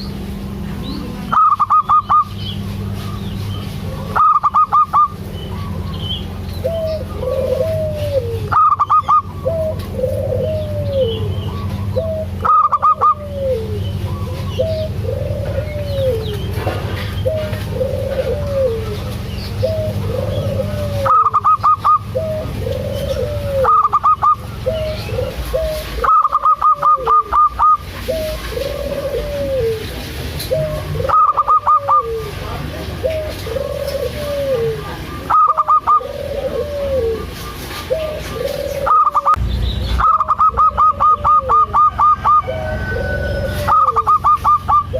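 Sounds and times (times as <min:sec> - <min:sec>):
dove cooing: 0:00.0 - 0:39.4, 0:40.0 - 0:44.9
steady low hum: 0:00.0 - 0:44.9.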